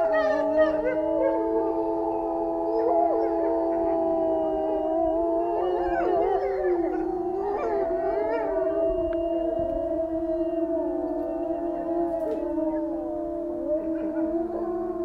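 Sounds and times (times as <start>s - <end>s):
wolves howling: 0.0s - 15.0s.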